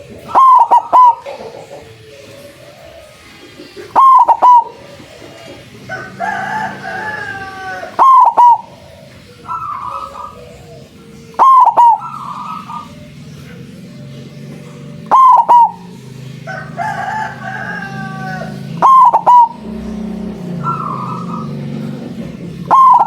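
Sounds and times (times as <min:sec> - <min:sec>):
dove cooing: 0:00.0 - 0:23.0
bird falling call: 0:00.2 - 0:01.8, 0:03.8 - 0:13.1, 0:15.0 - 0:23.0.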